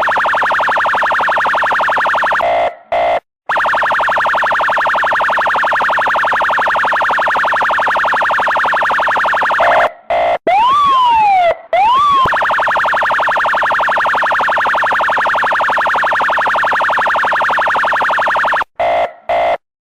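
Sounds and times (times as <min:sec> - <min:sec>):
police siren pulsing: 0:00.0 - 0:19.6
siren whoops: 0:00.0 - 0:19.6.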